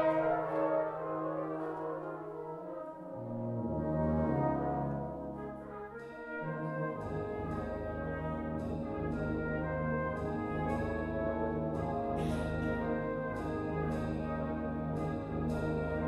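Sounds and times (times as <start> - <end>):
brass band playing chords: 0.0 - 16.0.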